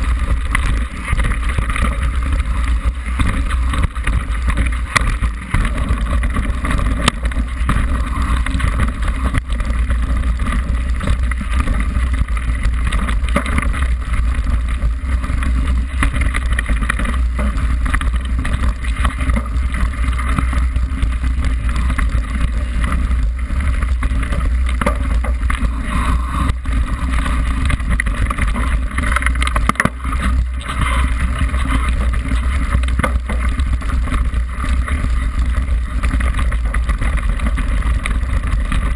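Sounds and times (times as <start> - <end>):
bike rattling over bumps: 0.0 - 38.9
bike tyre noise: 0.0 - 38.9
wind rumble on microphone: 0.0 - 38.9.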